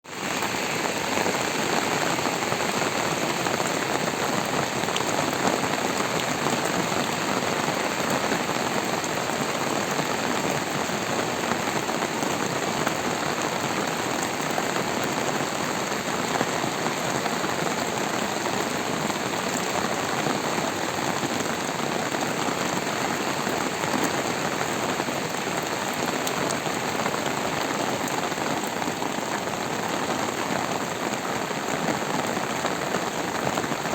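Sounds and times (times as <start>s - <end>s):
rain pattering on surfaces: 0.1s - 33.9s.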